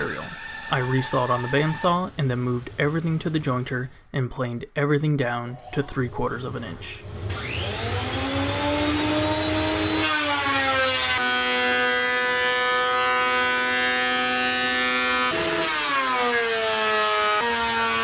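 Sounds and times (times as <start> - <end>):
thickness planer whining: 0.0 - 3.6, 7.0 - 18.0.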